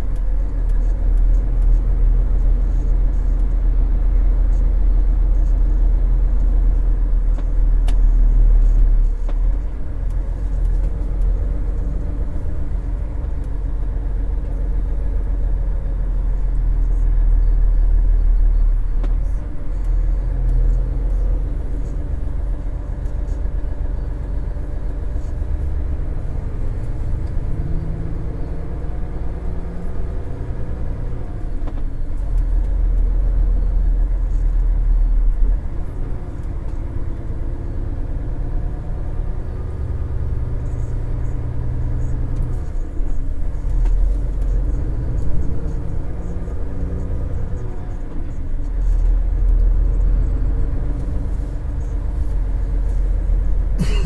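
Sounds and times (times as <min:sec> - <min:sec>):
road noise rumble: 0:00.0 - 0:54.0
truck engine hum: 0:00.0 - 0:54.0.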